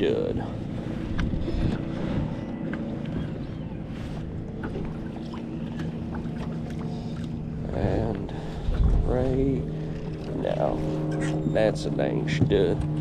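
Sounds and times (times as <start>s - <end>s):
boat engine hum and rumble: 0.0s - 13.0s.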